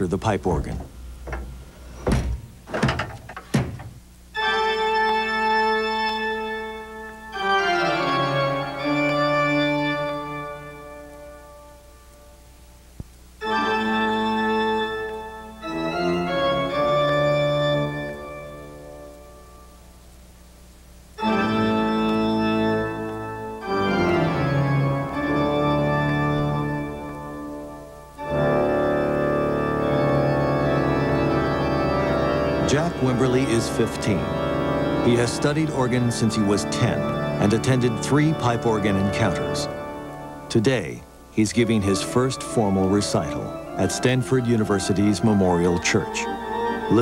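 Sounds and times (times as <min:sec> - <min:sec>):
pipe organ chords: 0:00.0 - 0:47.0.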